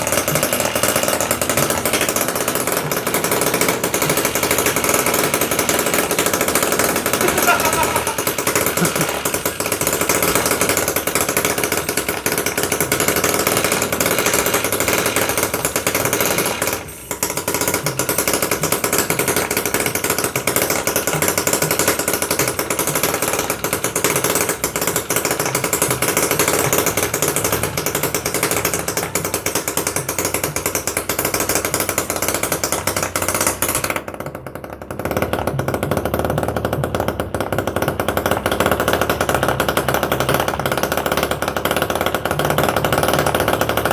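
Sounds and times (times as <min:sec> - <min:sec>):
small two-stroke engine running hard: 0:00.0 - 0:43.9.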